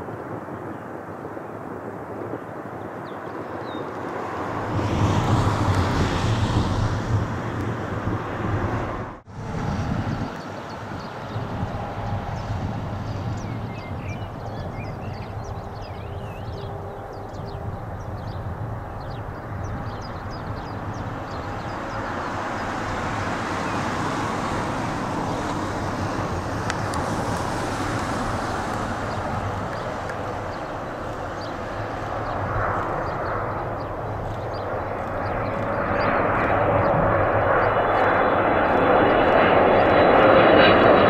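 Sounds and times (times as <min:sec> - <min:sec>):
jet engines rushing: 0:00.0 - 0:41.0
faint engine whine: 0:00.9 - 0:41.0.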